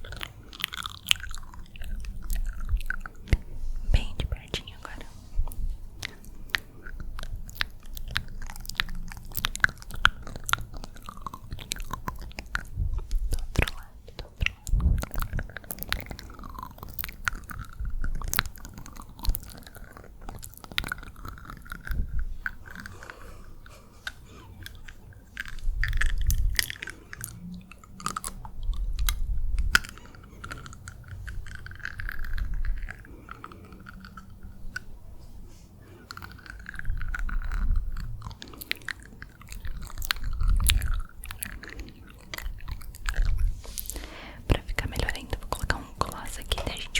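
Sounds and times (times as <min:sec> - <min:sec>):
breathy mouth noises: 0:00.0 - 0:46.9
lip and tongue clicks: 0:00.0 - 0:46.9.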